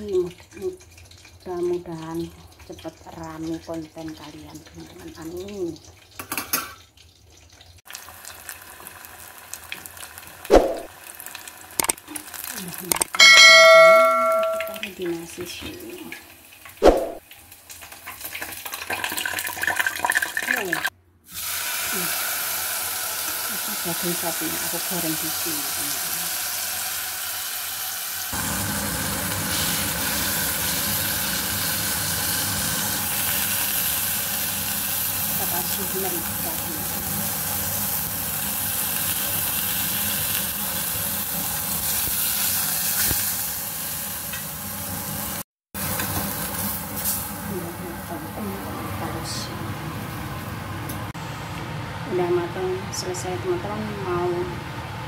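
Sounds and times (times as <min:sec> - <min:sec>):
food sizzling in hot oil: 0:00.0 - 0:48.6.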